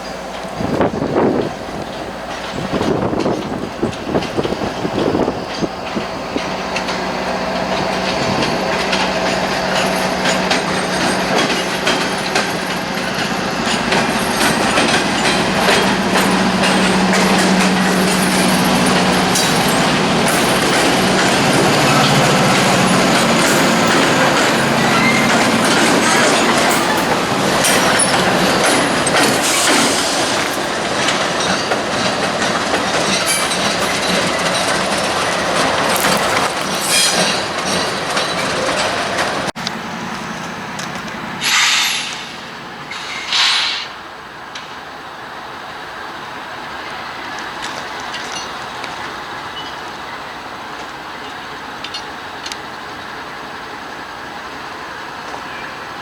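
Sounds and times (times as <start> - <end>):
train wheels clicking on rails: 0.0 - 56.0.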